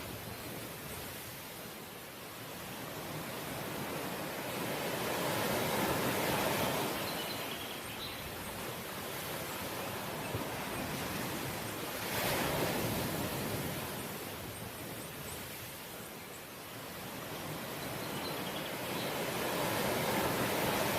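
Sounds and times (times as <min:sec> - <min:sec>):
ocean waves washing on shore: 0:00.0 - 0:20.9.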